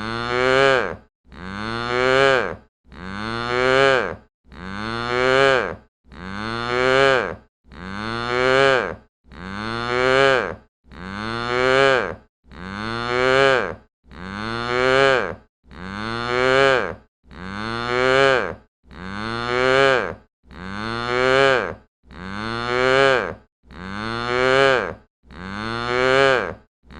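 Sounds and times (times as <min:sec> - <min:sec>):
cow mooing: 0:00.0 - 0:26.6.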